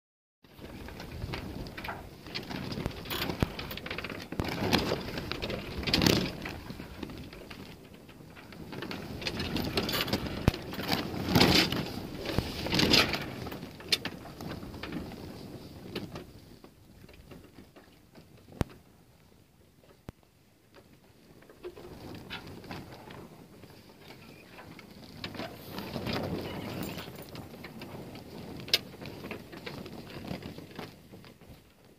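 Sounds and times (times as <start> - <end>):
sails and rigging slatting: 0.5 - 31.9.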